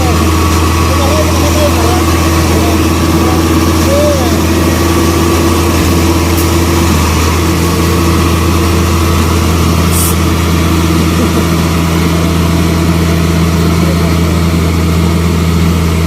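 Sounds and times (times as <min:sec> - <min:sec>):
diesel engine low drone: 0:00.0 - 0:16.0.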